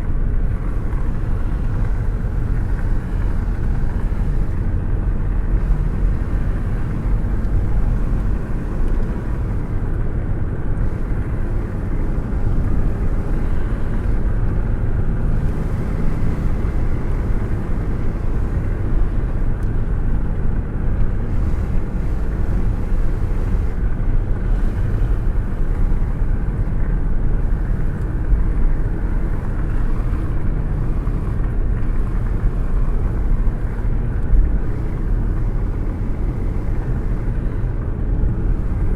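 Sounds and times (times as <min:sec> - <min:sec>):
car road noise: 0:00.0 - 0:38.9
wind rushing against a hand: 0:00.0 - 0:38.9.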